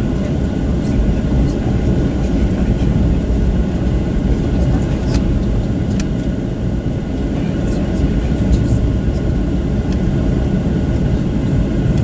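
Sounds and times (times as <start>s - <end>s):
airplane cabin rumble while taxiing: 0.0s - 12.0s.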